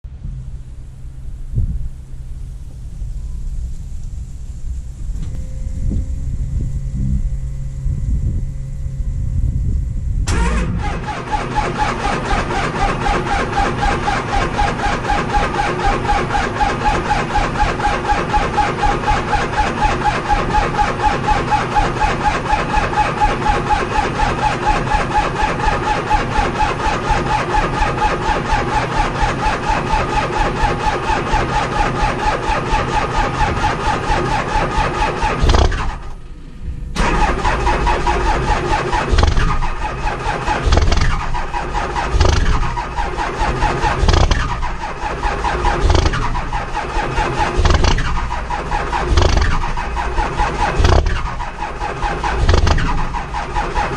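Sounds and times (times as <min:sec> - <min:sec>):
diesel engine sputtering: 0:00.0 - 0:53.9
engine starter whining: 0:00.1 - 0:53.9.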